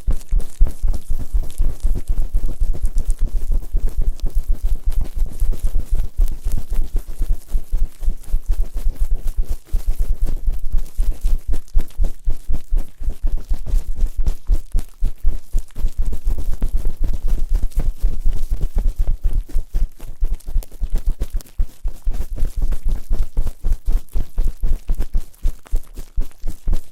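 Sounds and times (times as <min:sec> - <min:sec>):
rubbing on microphone: 0:00.0 - 0:26.9.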